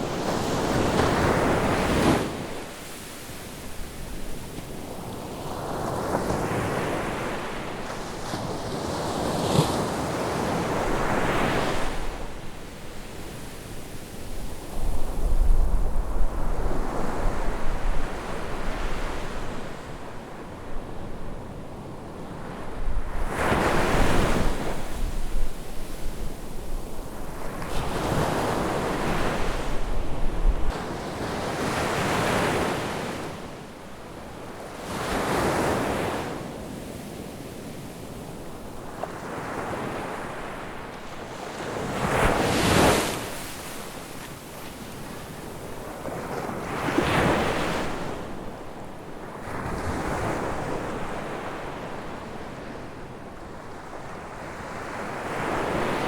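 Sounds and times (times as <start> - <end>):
ocean waves breaking on beach: 0.0 - 20.6, 22.0 - 48.6.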